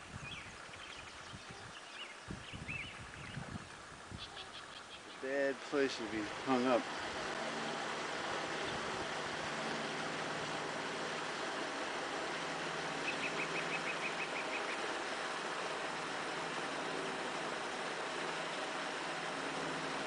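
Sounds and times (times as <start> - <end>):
outdoor ambient hiss: 0.0 - 20.0.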